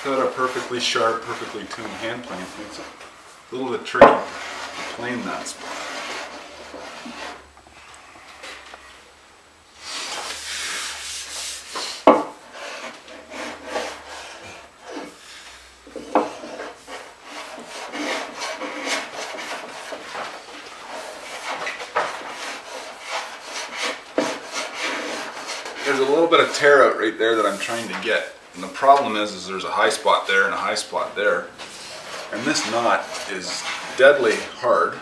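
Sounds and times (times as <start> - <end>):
hand plane shaving wood: 0.0 - 3.0, 4.0 - 7.4, 10.0 - 15.2, 15.9 - 35.0.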